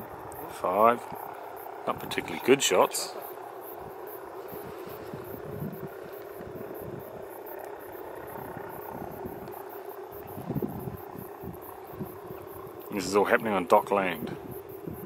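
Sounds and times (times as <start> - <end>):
distant helicopter: 0.0 - 15.0
insects chirring: 0.0 - 15.0.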